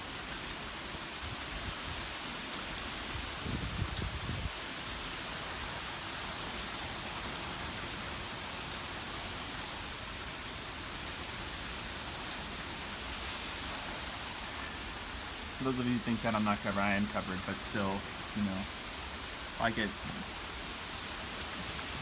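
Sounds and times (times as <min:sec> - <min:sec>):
wind-driven rain hissing: 0:00.0 - 0:22.0.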